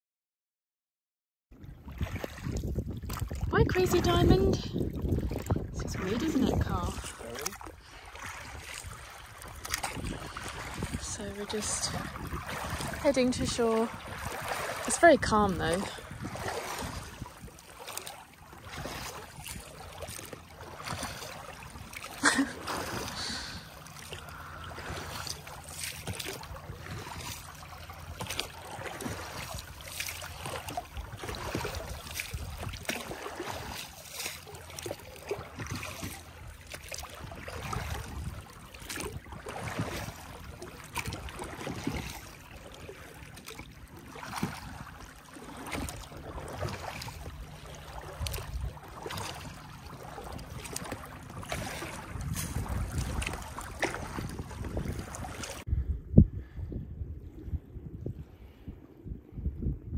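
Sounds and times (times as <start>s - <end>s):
water gurgling along hull: 1.5s - 59.9s
oars splashing: 1.6s - 55.7s.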